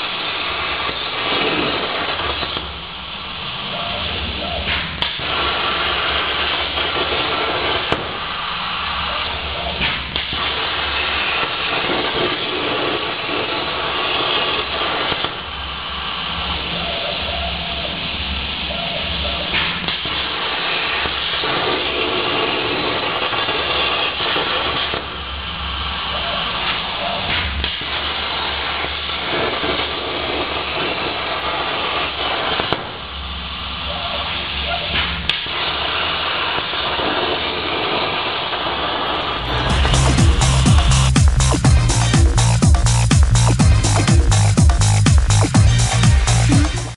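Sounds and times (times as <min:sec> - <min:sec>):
plasma torch hissing: 0:00.0 - 0:46.9.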